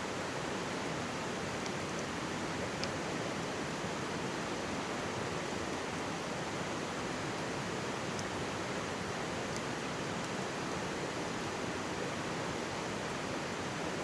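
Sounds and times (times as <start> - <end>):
faint campfire crackle: 0.1 - 14.0.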